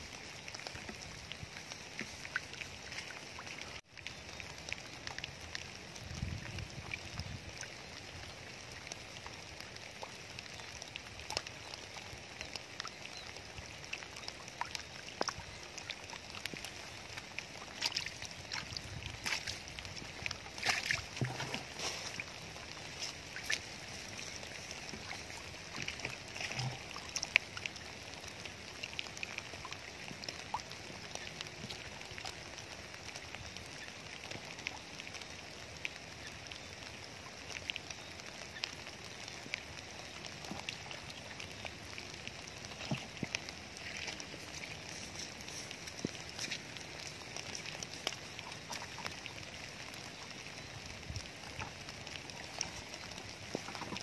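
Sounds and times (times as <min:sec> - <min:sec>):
muddy water trickling: 0:00.0 - 0:54.0
small water splashes: 0:00.0 - 0:54.0.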